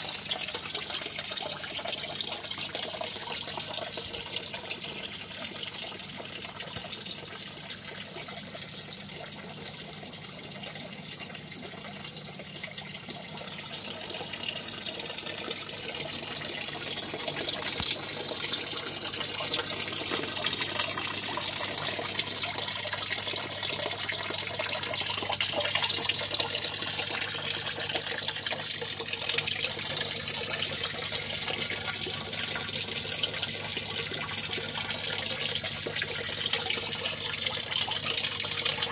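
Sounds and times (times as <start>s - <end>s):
water splashing into fish tank: 0.0s - 38.9s.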